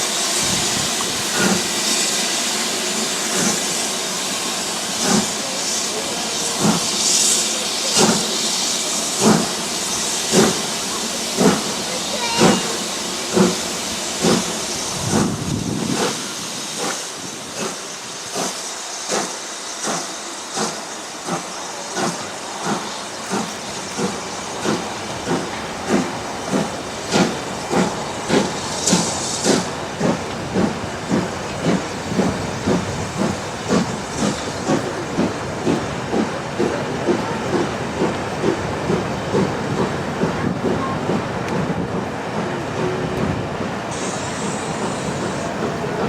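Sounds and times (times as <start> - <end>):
steam hiss: 0.0 - 46.0
steam locomotive chuffing: 0.0 - 46.0.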